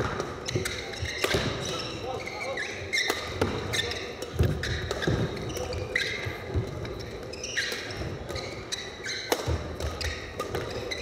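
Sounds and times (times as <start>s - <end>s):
rackets hitting shuttlecock: 0.0s - 1.9s, 2.9s - 11.0s
shoes squeaking on court: 0.4s - 11.0s.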